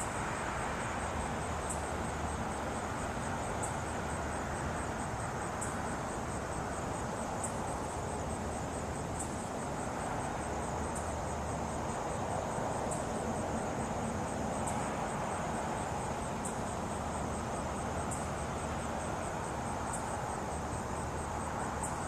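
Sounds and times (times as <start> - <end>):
insects trilling: 0.0 - 22.0
sharp insect call: 0.0 - 22.0.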